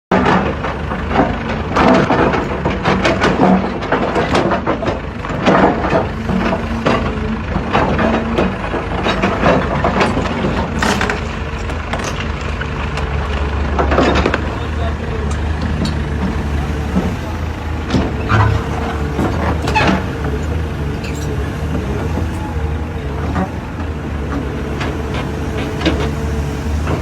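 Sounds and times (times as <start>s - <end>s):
diesel excavator engine running: 0.1s - 27.0s
heavy metal knocks and clanks: 0.1s - 27.0s.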